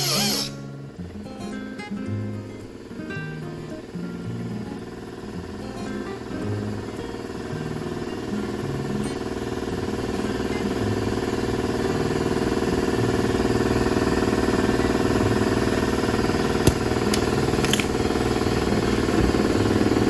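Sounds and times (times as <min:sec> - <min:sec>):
motor humming: 0:00.0 - 0:00.8, 0:03.9 - 0:20.0.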